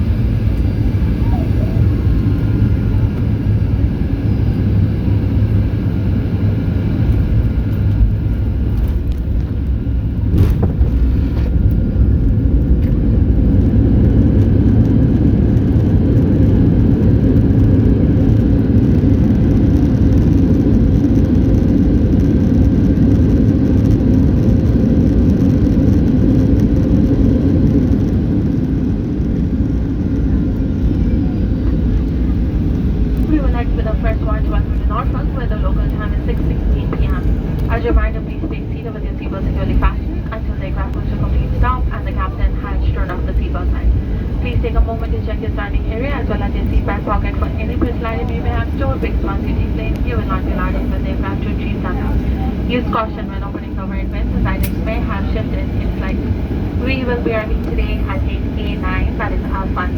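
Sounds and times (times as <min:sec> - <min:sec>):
jet engine whining tones: 0:00.0 - 0:59.9
low rumble of engines and tyres: 0:00.0 - 0:59.9.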